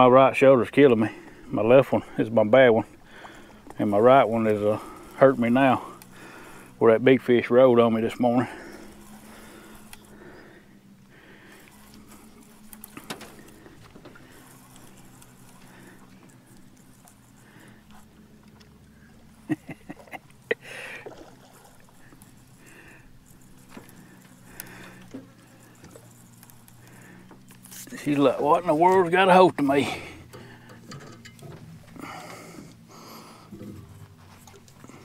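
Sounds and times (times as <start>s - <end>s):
boat motor humming: 0.0s - 35.0s.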